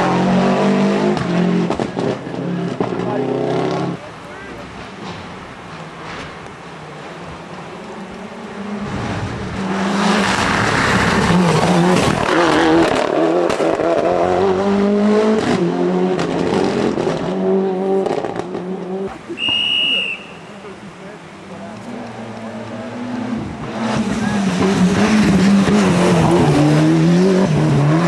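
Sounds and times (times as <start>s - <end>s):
rally car engine passing: 0.0s - 4.1s, 6.8s - 19.3s, 21.5s - 28.0s.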